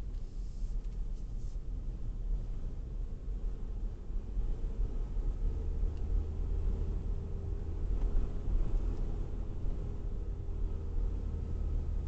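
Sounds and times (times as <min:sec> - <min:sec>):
car driving interior rumble: 0:00.0 - 0:12.0.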